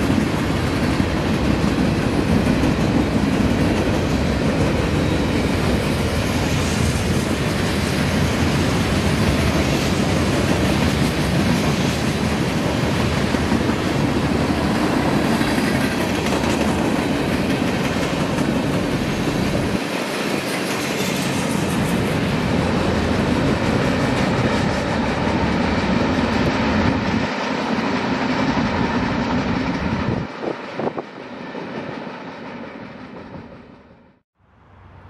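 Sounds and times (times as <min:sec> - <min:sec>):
train wheels clattering over rails: 0:00.0 - 0:33.7
train rumble: 0:00.0 - 0:35.0.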